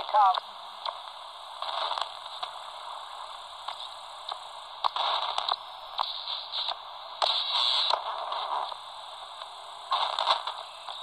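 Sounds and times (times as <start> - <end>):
radio crackles and noise bursts: 0.0 - 11.0
radio receiver hiss and static: 0.0 - 11.0.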